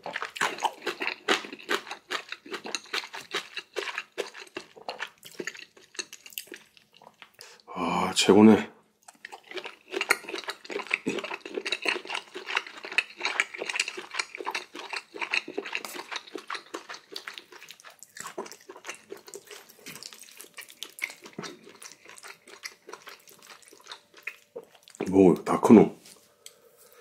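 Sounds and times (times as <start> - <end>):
wet chewing and mouth clicks: 0.0 - 7.7, 9.0 - 25.1.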